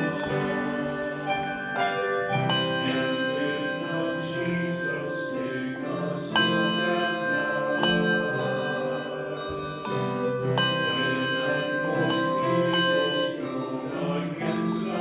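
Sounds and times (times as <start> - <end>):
handbell choir ringing: 0.0 - 15.0.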